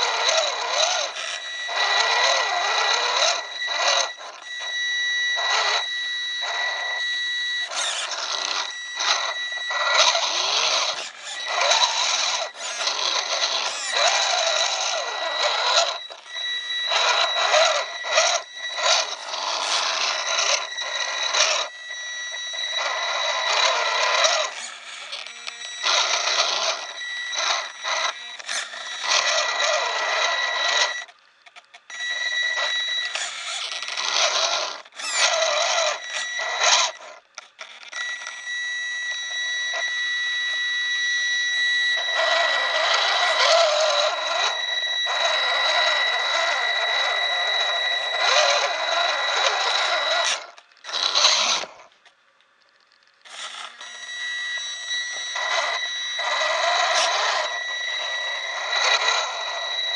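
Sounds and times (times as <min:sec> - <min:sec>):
high-pitched whine: 0:00.0 - 0:31.2, 0:31.9 - 0:52.0, 0:53.2 - 0:59.9
toy car motor whirring: 0:00.0 - 0:59.9.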